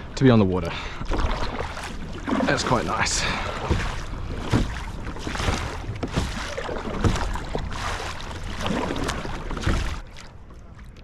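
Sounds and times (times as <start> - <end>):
kayak paddle splashing water: 0.6 - 11.0.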